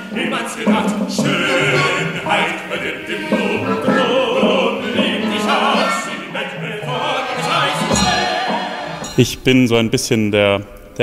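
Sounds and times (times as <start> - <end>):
two men singing operatically: 0.0 - 9.2
instrumental accompaniment: 0.0 - 9.8.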